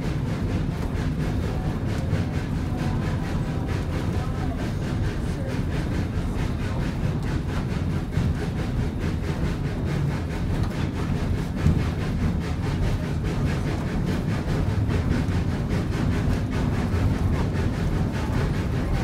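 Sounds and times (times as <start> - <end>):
steam locomotive fast beat: 0.0 - 19.0
train cars rumbling on rails: 0.0 - 19.0.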